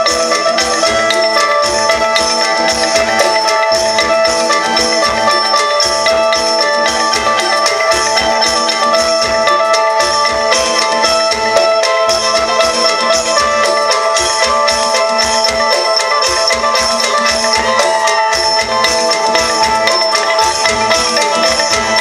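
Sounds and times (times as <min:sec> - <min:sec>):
drum and percussion beat: 0:00.0 - 0:22.0
lute melody: 0:00.0 - 0:22.0.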